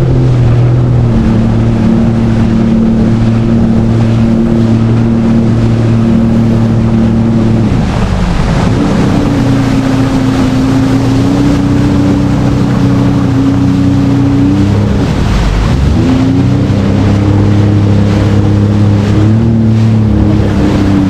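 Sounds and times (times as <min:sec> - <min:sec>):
jet ski engine running: 0:00.0 - 0:21.0
water rushing: 0:00.0 - 0:21.0
wind rushing: 0:00.0 - 0:21.0.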